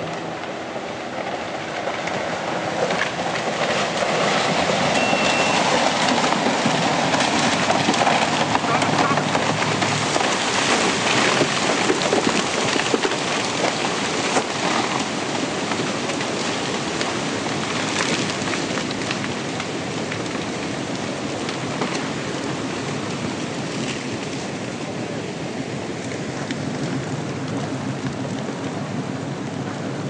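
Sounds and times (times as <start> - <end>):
landslide rushing with cracks: 0.0 - 30.0.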